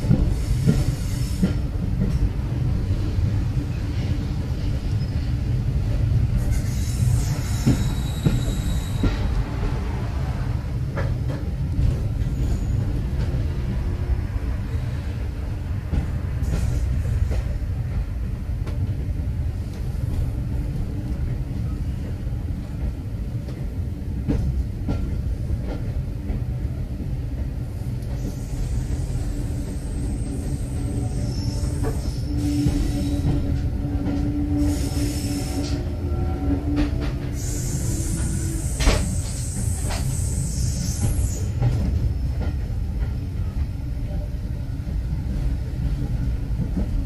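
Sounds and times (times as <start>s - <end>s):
train carriage rumble: 0.0s - 47.0s.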